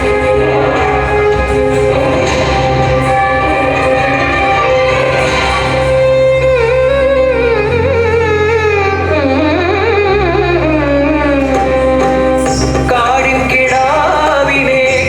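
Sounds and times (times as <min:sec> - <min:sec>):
steady drone: 0:00.0 - 0:14.6
ornamented gliding melody: 0:00.0 - 0:15.0.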